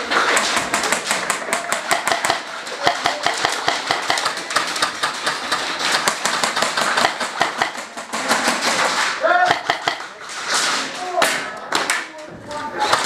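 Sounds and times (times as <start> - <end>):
airsoft guns firing: 0.0 - 10.6.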